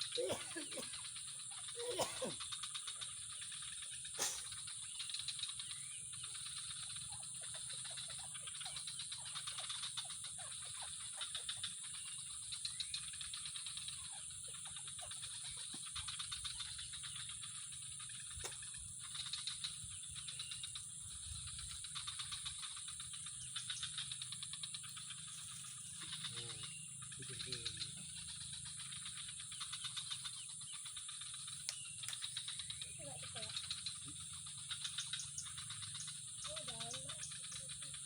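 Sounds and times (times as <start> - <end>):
rapid rattling animal calls: 0.0 - 38.0.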